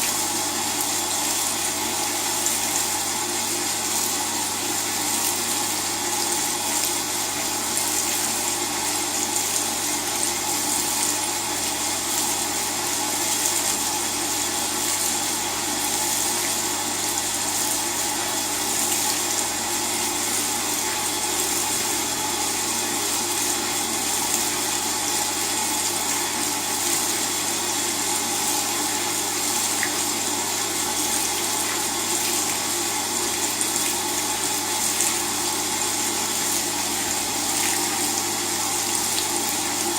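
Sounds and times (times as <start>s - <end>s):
washing machine low hum: 0.0s - 39.9s.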